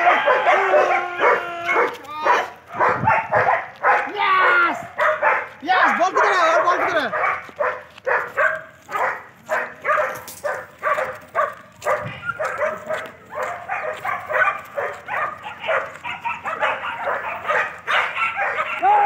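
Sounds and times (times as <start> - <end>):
dogs barking: 0.0 - 19.0.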